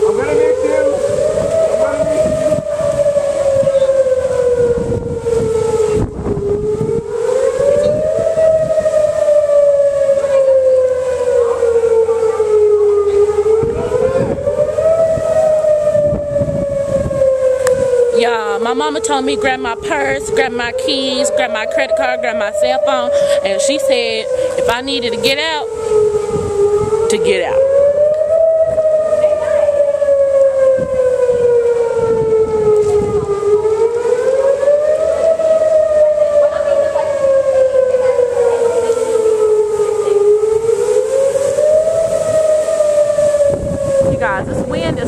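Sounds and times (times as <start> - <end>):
tornado warning siren wailing: 0.0 - 45.0
wind gusts on microphone: 0.0 - 45.0.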